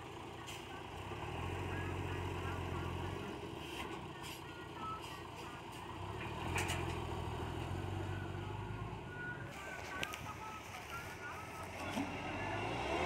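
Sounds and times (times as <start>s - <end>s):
dump truck diesel engine running: 0.0s - 13.0s.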